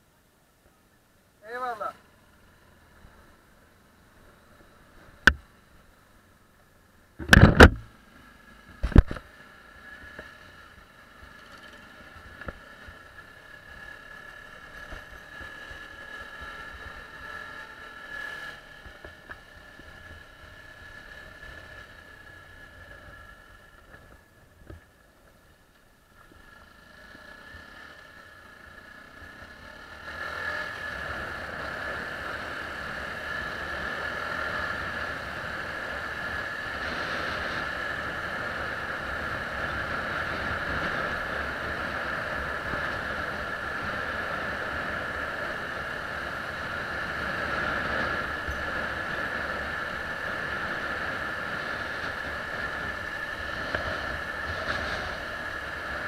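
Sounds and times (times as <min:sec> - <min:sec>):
motorcycle engine running: 0:01.5 - 0:56.0.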